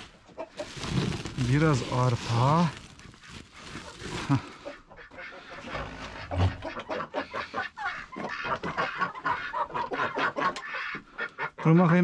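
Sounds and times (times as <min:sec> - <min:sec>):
chickens clucking: 0:00.0 - 0:12.0
ducks quacking: 0:00.3 - 0:12.0.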